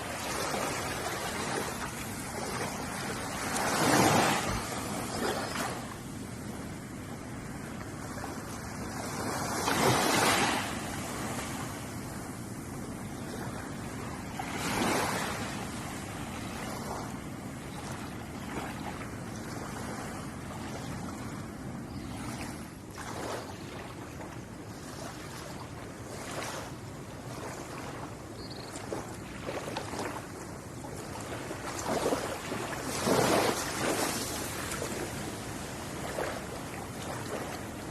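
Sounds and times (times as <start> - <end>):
ocean waves washing on shore: 0.0 - 37.9.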